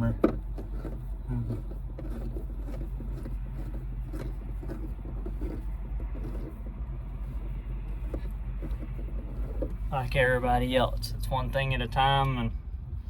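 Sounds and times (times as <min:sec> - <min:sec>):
tractor diesel engine idling: 0:00.0 - 0:12.9.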